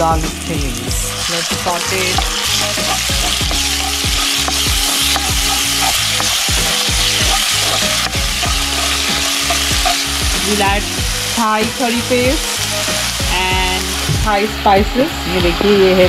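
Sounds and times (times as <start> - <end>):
background music with low beat: 0.0 - 16.0
paste sizzling in hot oil: 0.0 - 16.0
spatula stirring: 0.9 - 14.1.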